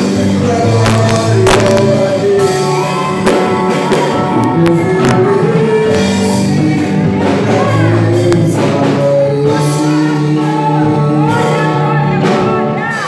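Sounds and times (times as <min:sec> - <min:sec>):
instrumental accompaniment: 0:00.0 - 0:13.0
voices singing gospel: 0:00.0 - 0:13.0.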